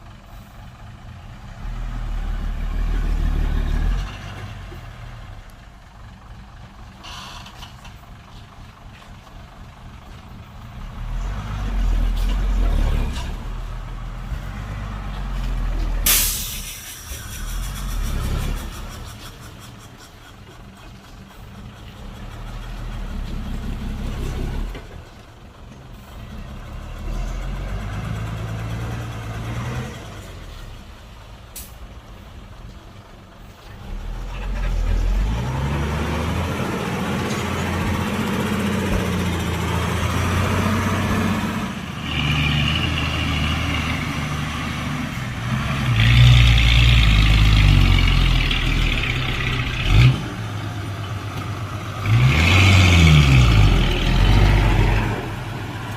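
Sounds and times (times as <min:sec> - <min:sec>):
heavy diesel engines revving: 0:00.0 - 0:55.9.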